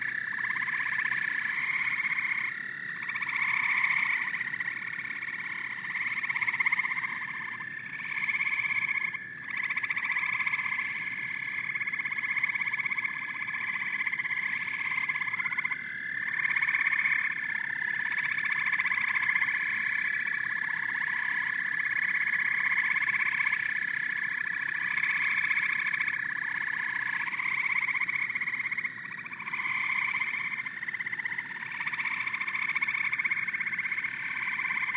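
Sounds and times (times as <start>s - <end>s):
frogs croaking: 0.0s - 34.9s.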